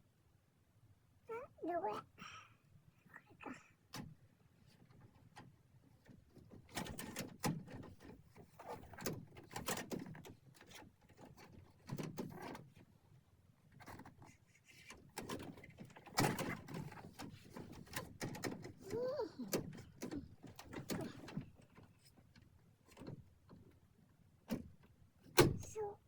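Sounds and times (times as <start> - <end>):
plastic knocks clicks and scraping: 3.9 - 13.0, 13.6 - 25.8.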